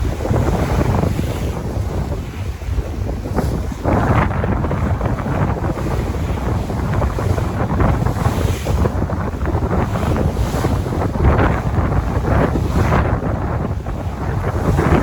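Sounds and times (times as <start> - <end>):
sea waves breaking: 0.0 - 15.0
wind buffeting microphone: 0.0 - 15.0.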